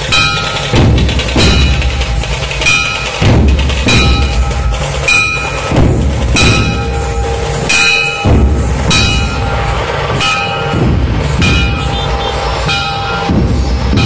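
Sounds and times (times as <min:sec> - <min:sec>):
heavy drum beats: 0:00.0 - 0:14.0
ringing metallic strikes: 0:00.0 - 0:14.0.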